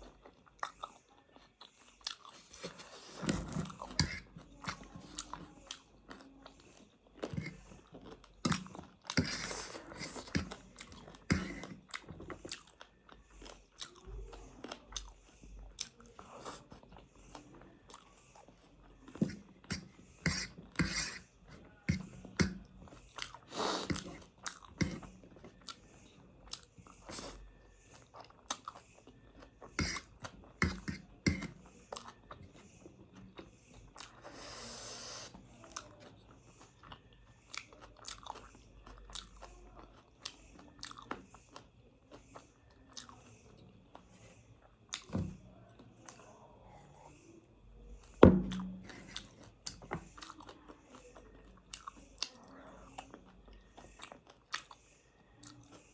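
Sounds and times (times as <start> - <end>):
chewing with crisp crunches: 0.0 - 47.1, 47.8 - 55.9.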